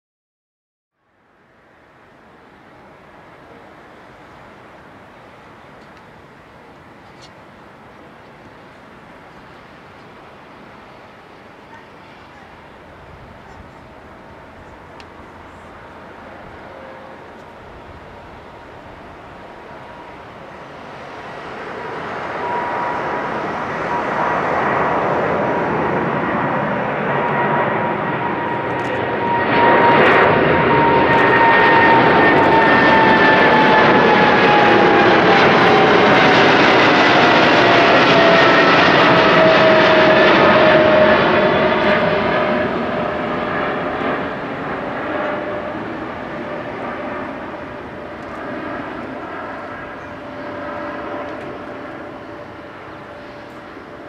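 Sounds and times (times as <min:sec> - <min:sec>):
jet plane passing overhead: 0:01.1 - 0:54.0.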